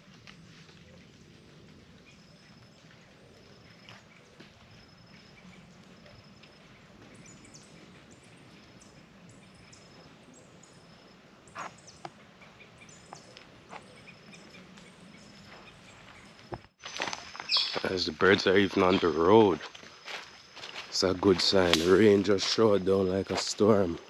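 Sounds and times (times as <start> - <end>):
birds chirping: 0.3 - 24.0.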